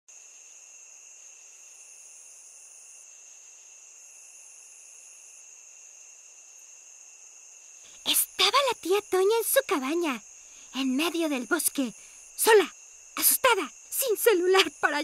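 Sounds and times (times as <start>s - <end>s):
crickets trilling: 0.1s - 15.0s
higher insect trill: 0.1s - 15.0s.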